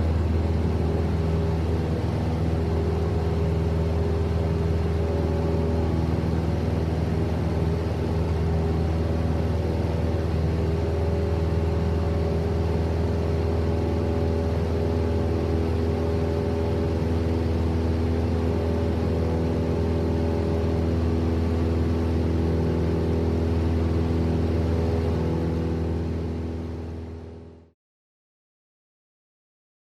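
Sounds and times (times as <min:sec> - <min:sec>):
propeller plane engine drone: 0:00.0 - 0:27.8.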